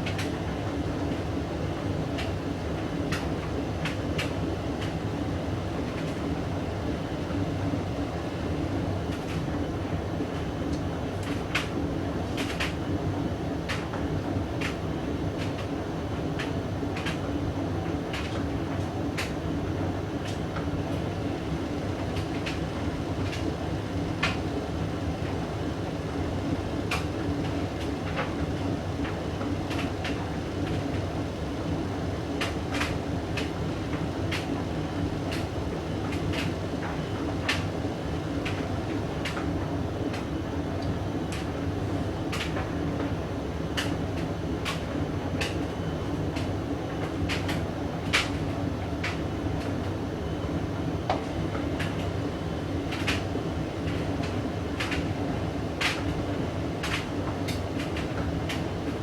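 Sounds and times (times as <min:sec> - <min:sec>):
washing machine running: 0:00.0 - 0:59.0.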